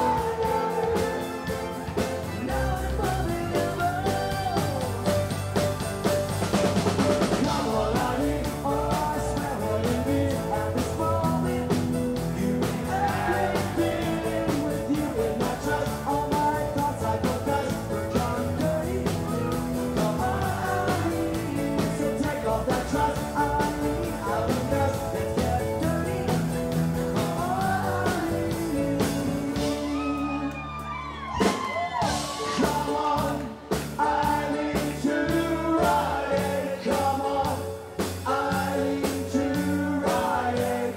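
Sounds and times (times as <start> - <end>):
singer: 0.0 - 5.4, 7.2 - 40.9
rock band playing: 0.0 - 40.9.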